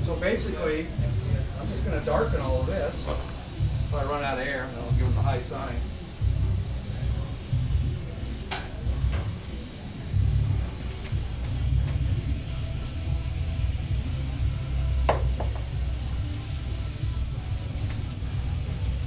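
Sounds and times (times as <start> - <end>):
paint sprayer hissing: 0.0 - 19.0.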